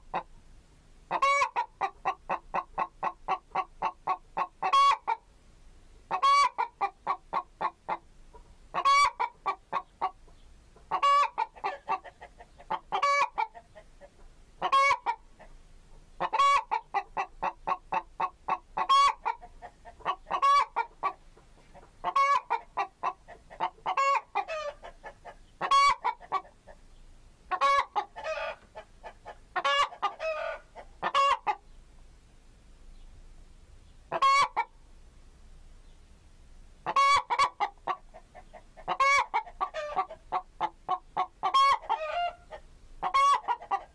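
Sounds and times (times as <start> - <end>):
chicken cackling: 0.0 - 0.3, 1.1 - 5.3, 6.1 - 26.9, 27.5 - 31.8, 34.1 - 34.8, 36.8 - 43.9.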